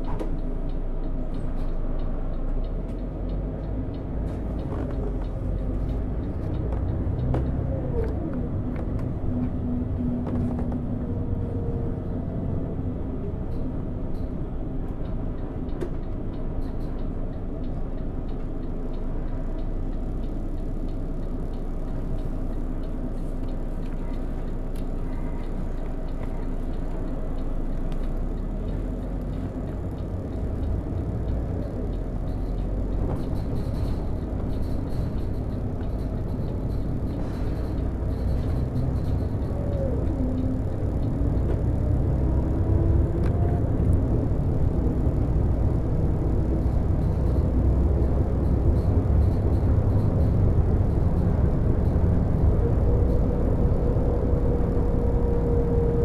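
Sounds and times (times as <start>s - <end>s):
bus diesel engine running: 0.0s - 56.0s
road rumble: 0.0s - 56.0s.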